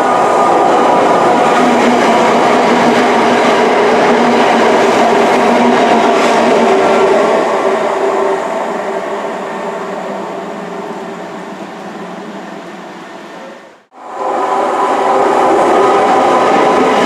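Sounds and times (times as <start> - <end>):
train rail noise: 0.0 - 17.0.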